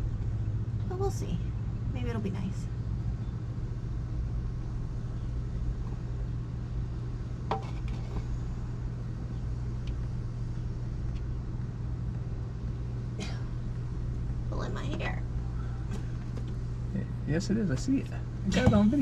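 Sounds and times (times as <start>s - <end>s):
low hum and rumble: 0.0s - 19.0s.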